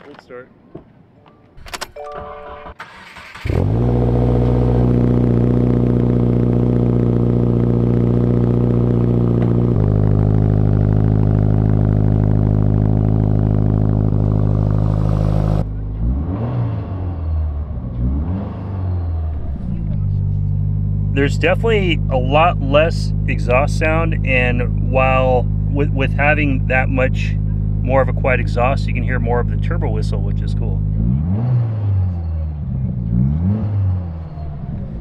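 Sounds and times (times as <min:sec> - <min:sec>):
car engine starting and idling: 0:01.6 - 0:35.0
quieter engine note rising and falling: 0:02.5 - 0:35.0.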